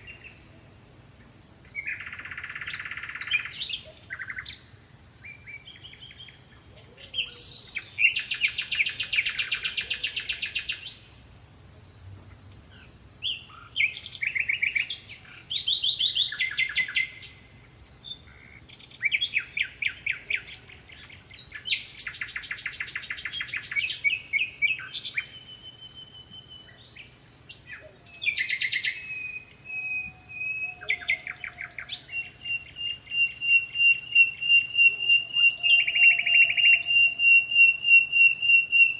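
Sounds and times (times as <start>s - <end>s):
bird chirping: 0.0s - 11.3s, 12.2s - 38.9s
songbird trills: 0.0s - 11.4s, 12.0s - 38.9s.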